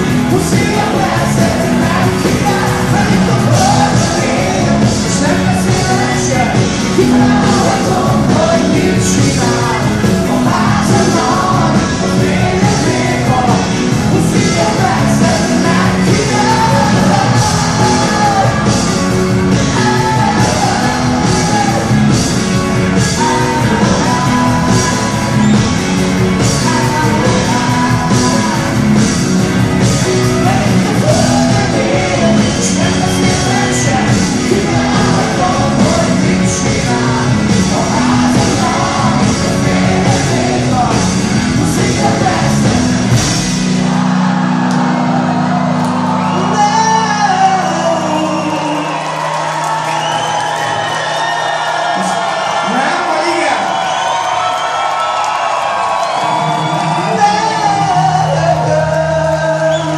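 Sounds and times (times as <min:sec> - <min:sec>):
man singing: 0:00.0 - 0:22.2, 0:22.9 - 0:25.8, 0:26.4 - 0:43.2, 0:46.4 - 0:49.8, 0:56.7 - 0:59.9
rock band playing live: 0:00.0 - 0:59.9.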